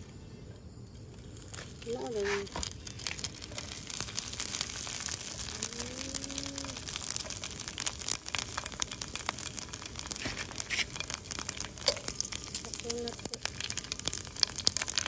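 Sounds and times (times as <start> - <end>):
fish frying in hot oil: 0.9 - 15.0.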